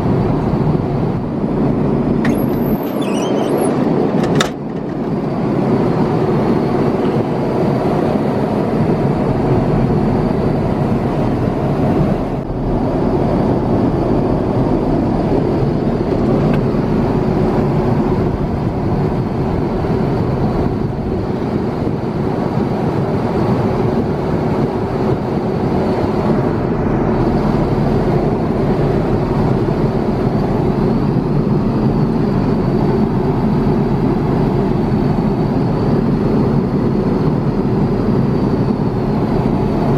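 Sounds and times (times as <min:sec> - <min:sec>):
jet cabin rumble: 0:00.0 - 0:39.9.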